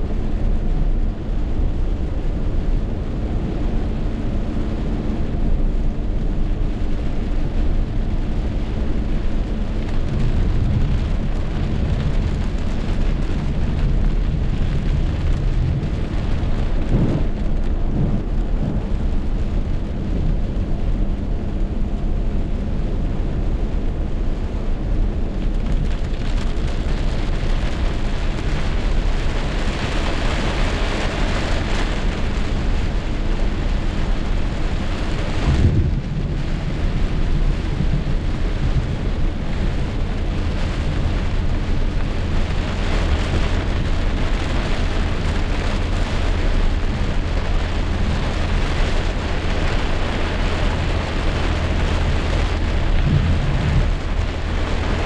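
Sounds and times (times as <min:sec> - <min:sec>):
heavy rain downpour: 0:00.0 - 0:55.0
low rumble: 0:00.0 - 0:55.0.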